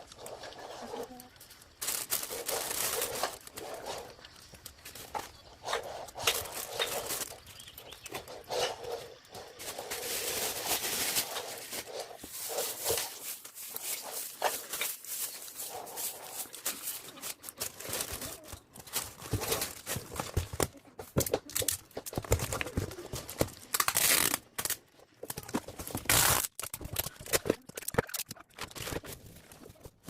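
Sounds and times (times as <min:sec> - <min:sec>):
packing materials rustling: 0:00.0 - 0:30.0.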